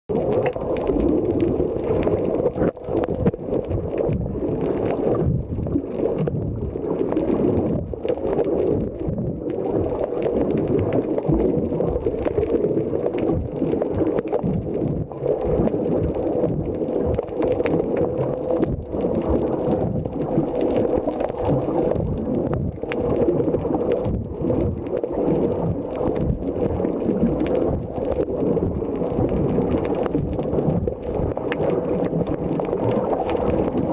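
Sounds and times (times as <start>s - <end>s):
muffled underwater rumbling: 0.1s - 33.9s.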